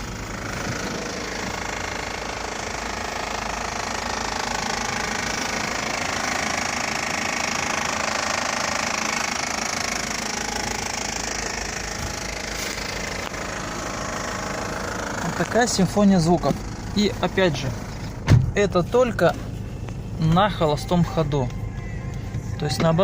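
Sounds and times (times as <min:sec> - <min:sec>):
car engine idling with rattling knock: 0:00.0 - 0:23.0.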